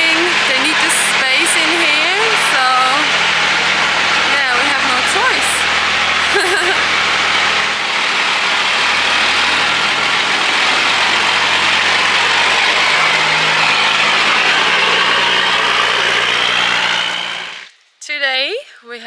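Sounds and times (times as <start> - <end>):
diesel truck engine running: 0.0 - 17.7.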